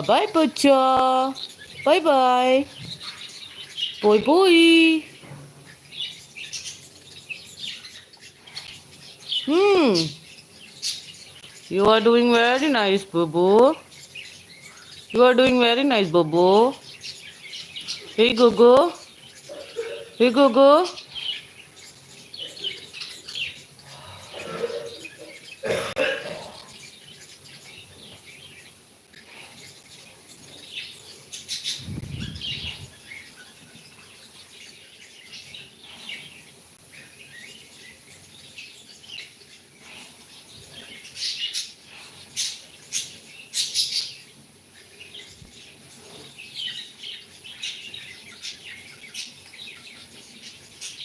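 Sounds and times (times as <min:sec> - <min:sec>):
parrots chirping: 0:00.0 - 0:51.0.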